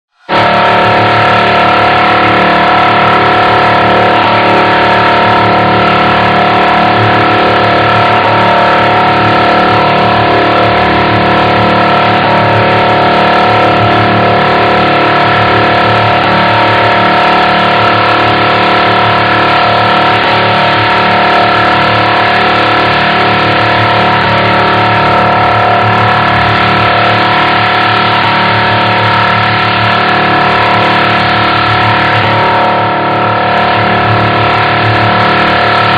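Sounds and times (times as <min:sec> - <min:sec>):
electronic robot vocoder drone: 0:00.1 - 0:35.9.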